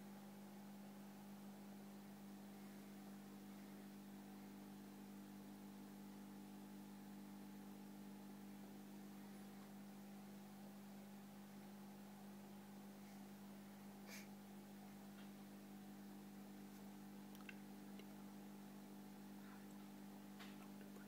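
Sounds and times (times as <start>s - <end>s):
aquarium filter pump hum: 0.0s - 21.0s.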